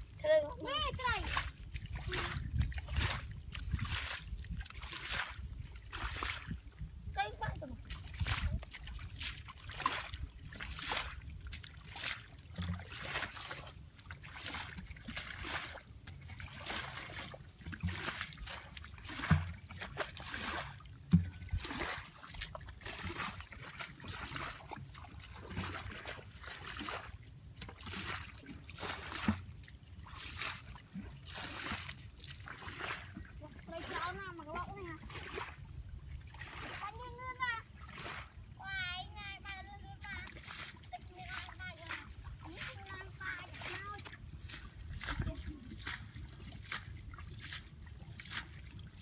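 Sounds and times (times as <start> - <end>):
muddy water splashing: 0.0 - 49.0.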